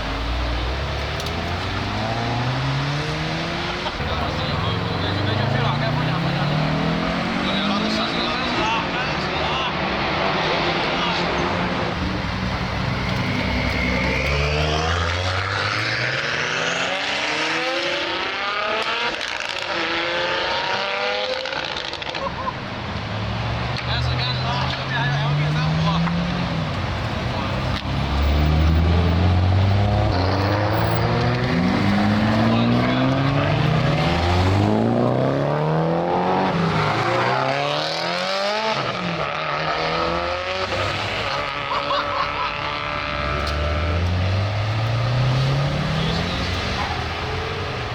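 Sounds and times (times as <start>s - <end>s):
car engine revving hard: 0.0s - 22.2s, 22.8s - 47.9s.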